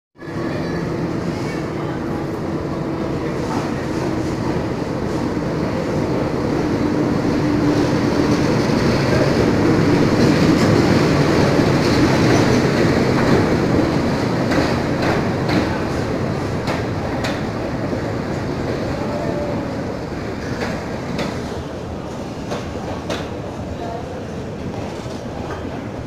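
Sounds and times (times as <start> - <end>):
diesel locomotive engine drone: 0.2 - 25.2
train wheels rolling on rails: 0.4 - 26.0.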